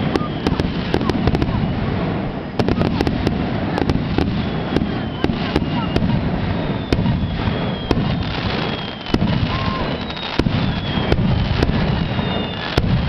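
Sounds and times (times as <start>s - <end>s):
fireworks bursting with sharp bangs: 0.0s - 13.0s
fireworks crackling: 0.0s - 13.0s
high firework whistles: 0.0s - 13.0s.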